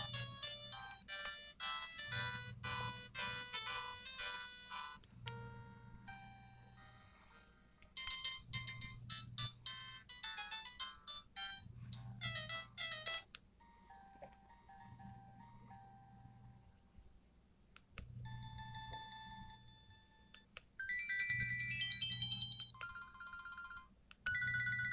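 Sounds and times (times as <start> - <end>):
mobile phone ringtone melodies: 0.0 - 7.0, 8.0 - 16.7, 18.2 - 24.9.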